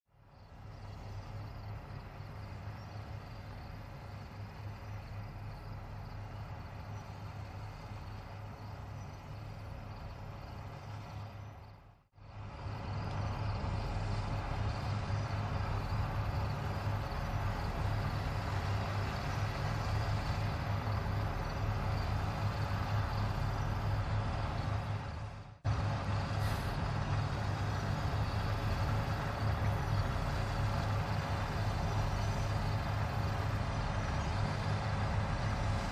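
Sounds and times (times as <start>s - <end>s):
combine harvester engine drone: 0.1s - 35.9s.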